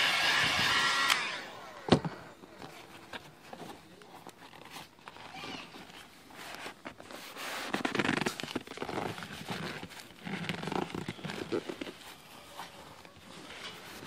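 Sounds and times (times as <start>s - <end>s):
seat cover crinkling and rustling: 2.5s - 14.0s.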